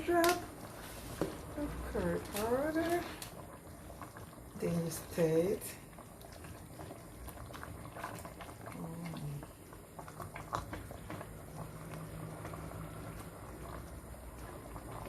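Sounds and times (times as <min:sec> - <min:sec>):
pot bubbling and crackling: 0:00.0 - 0:15.0.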